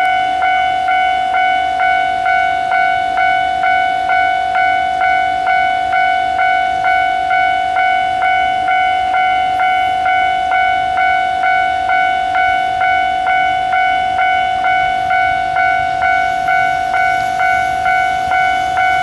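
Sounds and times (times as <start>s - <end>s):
constant tone: 0.0s - 19.0s
level crossing warning bell: 0.0s - 19.0s.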